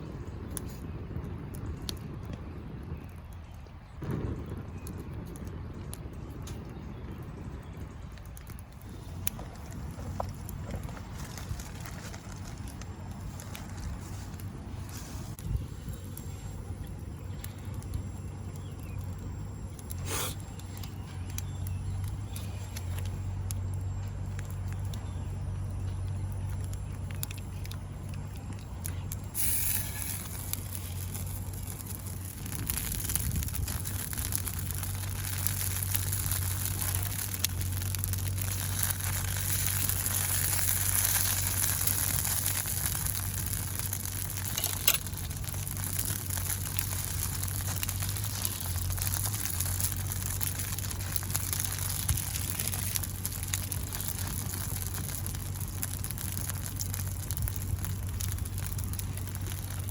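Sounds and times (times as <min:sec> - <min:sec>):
campfire sizzling and crackling: 0:00.0 - 0:59.9.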